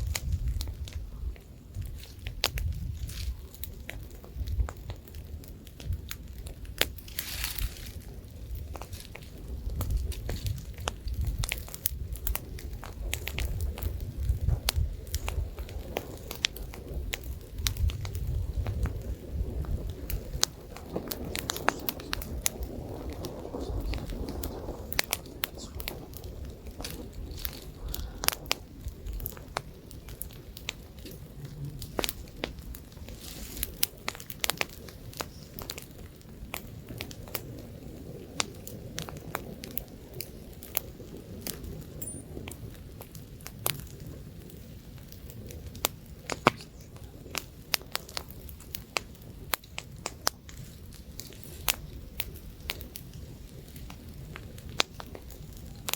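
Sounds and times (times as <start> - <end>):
campfire crackling and popping: 0.0 - 55.9
light wind rumble: 0.0 - 55.9.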